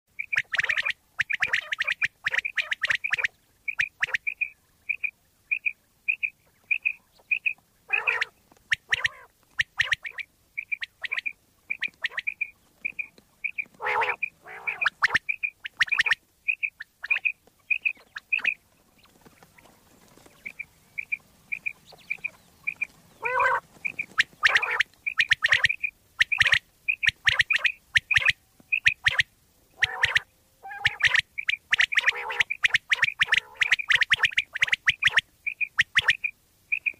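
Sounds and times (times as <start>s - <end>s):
quail calling: 0.1s - 36.9s.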